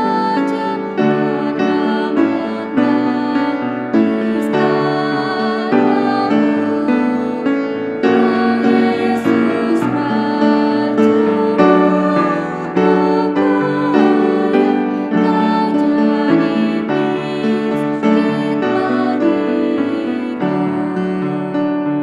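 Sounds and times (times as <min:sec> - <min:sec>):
woman singing a hymn: 0:00.0 - 0:21.6.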